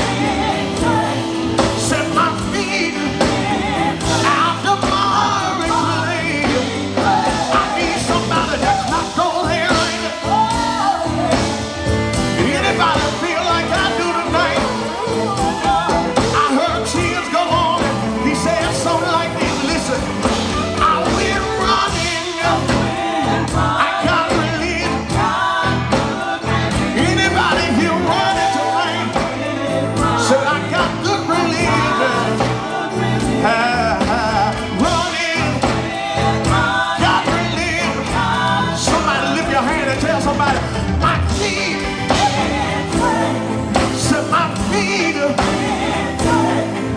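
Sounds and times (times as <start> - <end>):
bass: 0.0 - 46.9
drums: 0.0 - 46.9
electric guitar: 0.0 - 46.9
keyboard: 0.0 - 46.9
singers: 0.0 - 46.9.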